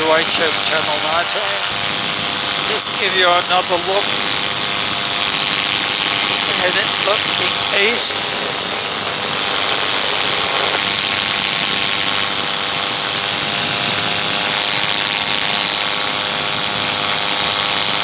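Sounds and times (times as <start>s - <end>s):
paramotor engine and propeller: 0.0s - 18.0s.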